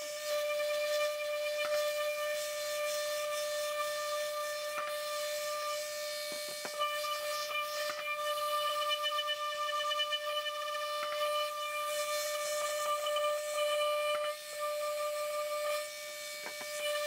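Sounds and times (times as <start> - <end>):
orbital sander whining: 0.0 - 17.0.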